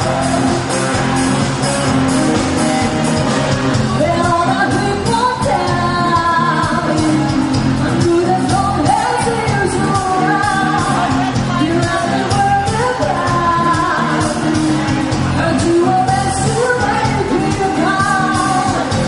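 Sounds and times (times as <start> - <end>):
person singing: 0.0 - 19.0
rock band playing: 0.0 - 19.0.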